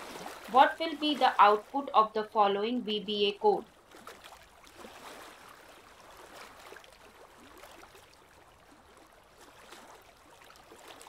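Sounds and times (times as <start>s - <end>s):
faint running water babbling: 0.0s - 11.0s.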